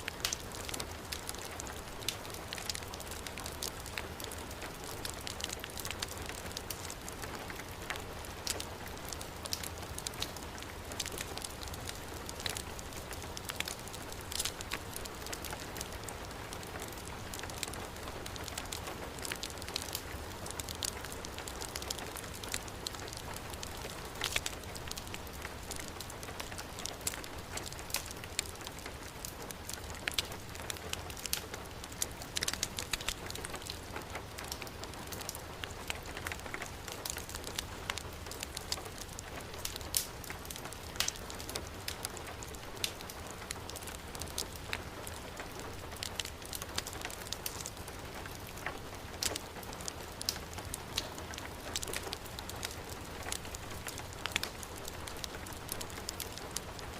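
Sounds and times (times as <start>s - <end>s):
fireplace fire crackling: 0.0s - 56.9s.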